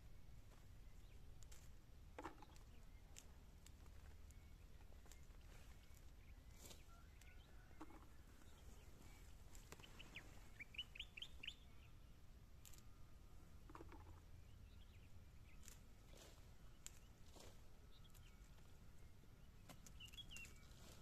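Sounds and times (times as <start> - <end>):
birds calling faintly: 0.0 - 21.0.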